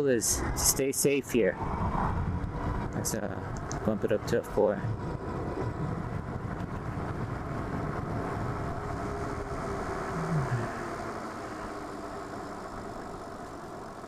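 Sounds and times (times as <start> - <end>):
wind and road noise: 0.0 - 14.0
low falling tone: 1.5 - 14.0.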